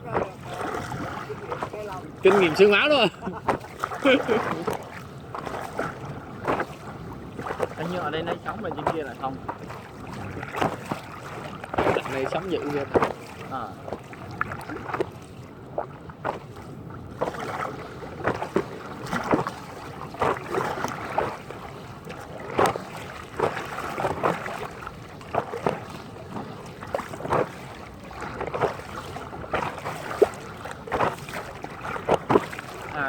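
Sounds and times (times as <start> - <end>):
water splashing against kayak: 0.0 - 33.0.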